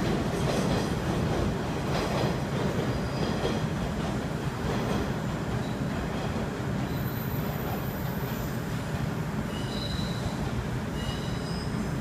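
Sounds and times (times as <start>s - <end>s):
electric train rumbling: 0.0s - 12.0s
high train squeals: 2.3s - 12.0s.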